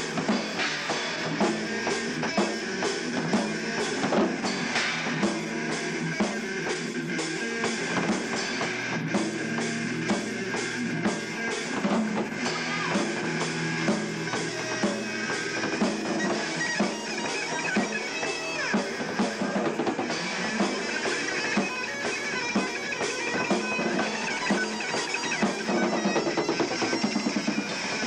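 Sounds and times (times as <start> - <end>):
drum hits: 0.0 - 6.9, 7.5 - 28.0
metal band playing: 0.0 - 28.0.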